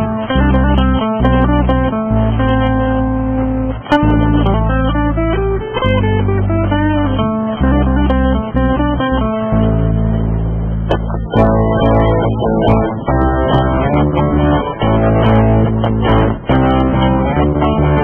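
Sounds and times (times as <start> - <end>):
guitar music with bass line: 0.0 - 18.0.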